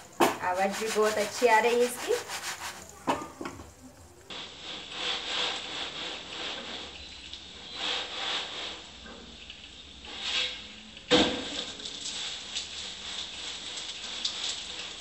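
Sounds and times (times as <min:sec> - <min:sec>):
chapati scraping in frying pan: 0:00.0 - 0:15.0.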